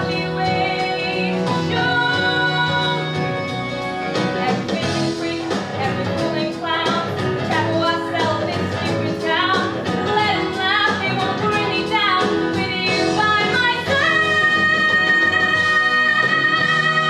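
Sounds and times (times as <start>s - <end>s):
woman singing: 0.0s - 3.6s, 4.2s - 17.0s
piano accompaniment: 0.0s - 17.0s.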